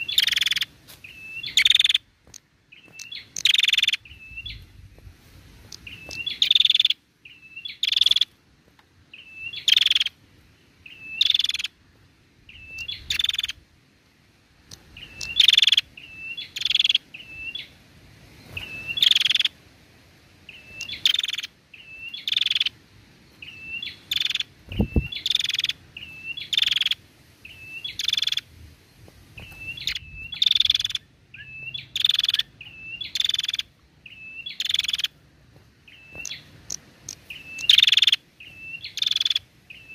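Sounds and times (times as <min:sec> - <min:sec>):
bird calling with buzzing chatter: 0:00.0 - 0:05.0, 0:05.6 - 0:08.4, 0:09.1 - 0:13.6, 0:14.7 - 0:17.8, 0:18.4 - 0:19.6, 0:20.5 - 0:39.9.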